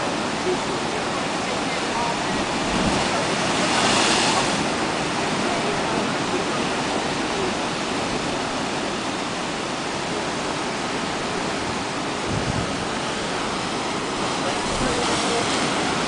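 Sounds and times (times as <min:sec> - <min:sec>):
surf washing over rocks: 0:00.0 - 0:16.0.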